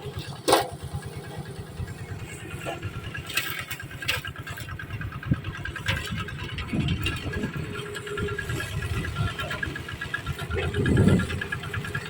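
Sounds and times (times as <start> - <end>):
machine engine chugging: 0.0 - 12.0.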